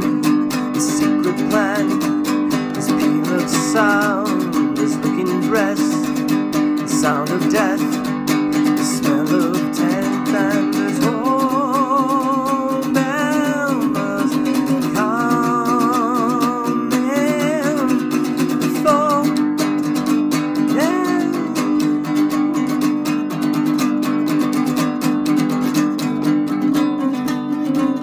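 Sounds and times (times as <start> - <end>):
man singing: 0.0 - 25.5, 26.6 - 28.0
ukulele strumming: 0.0 - 28.0.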